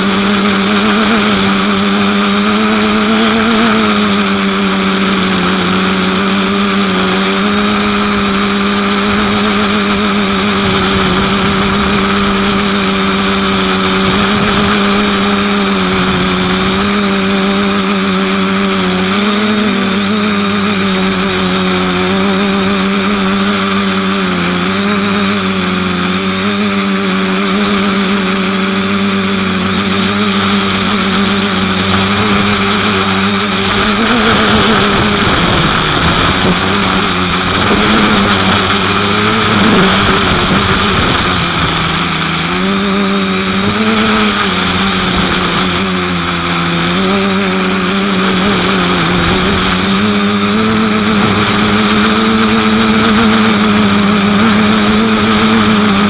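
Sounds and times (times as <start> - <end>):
motor humming with high whine: 0.0 - 56.0.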